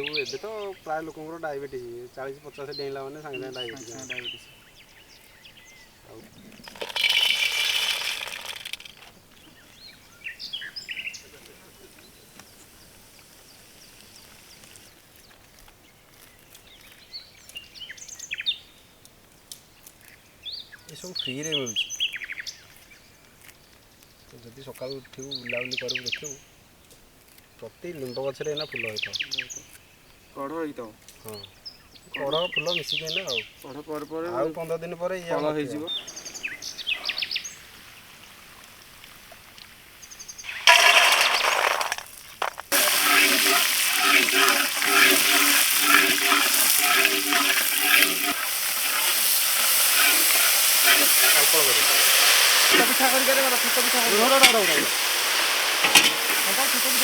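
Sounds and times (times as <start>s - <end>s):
birds chirping: 0.0s - 26.9s, 27.6s - 57.0s
outdoor background hiss: 0.0s - 57.0s.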